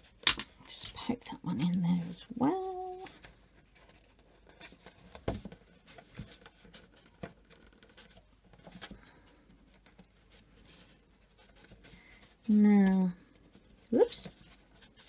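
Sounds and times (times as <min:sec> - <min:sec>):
paper rustling: 0:02.6 - 0:15.0.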